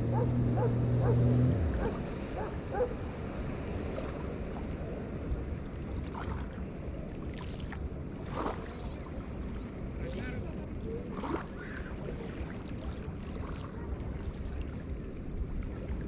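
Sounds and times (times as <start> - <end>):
river waves lapping: 0.0 - 16.0
wind rumble on microphone: 0.0 - 16.0.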